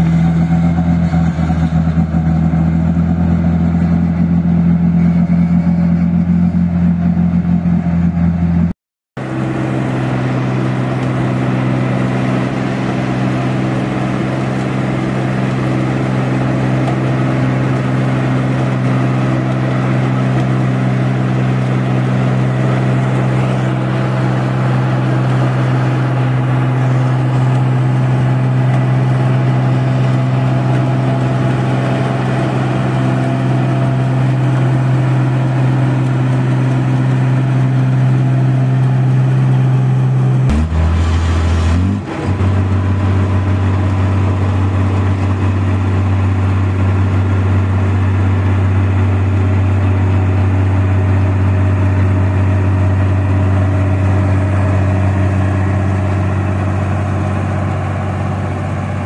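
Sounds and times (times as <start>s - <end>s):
combine harvester diesel engine: 0.0s - 59.0s.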